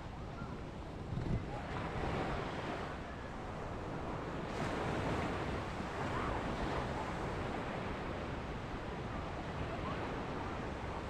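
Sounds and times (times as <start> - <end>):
small waves breaking on shore: 1.6 - 11.0.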